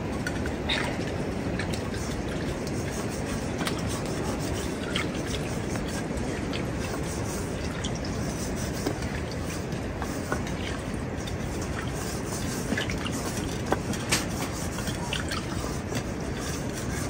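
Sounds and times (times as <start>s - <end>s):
drips ticking: 0.0s - 16.8s.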